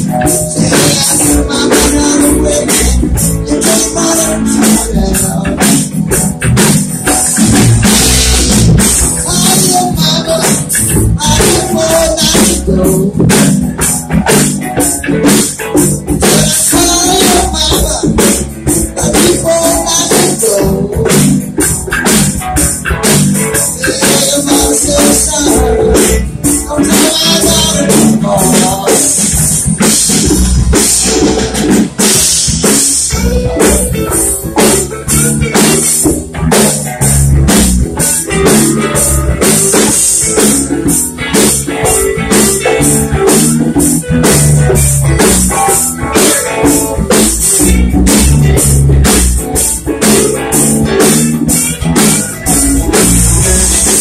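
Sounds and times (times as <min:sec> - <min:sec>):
bass guitar: 0:00.0 - 0:54.0
congas: 0:00.0 - 0:54.0
drum kit: 0:00.0 - 0:54.0
electric guitars: 0:00.0 - 0:54.0.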